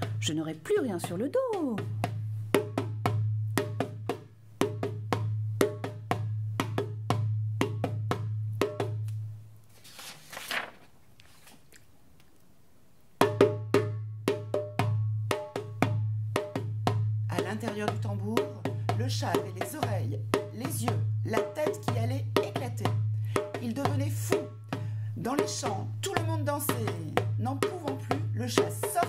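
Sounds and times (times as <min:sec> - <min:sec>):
hand drum beaten rhythmically: 0:00.0 - 0:09.0, 0:13.2 - 0:29.0.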